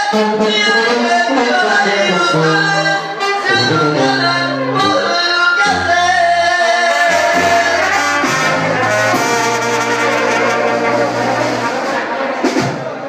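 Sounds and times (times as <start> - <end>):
tuba bass line: 0.0 - 12.6
trombones and trumpets: 0.0 - 12.9.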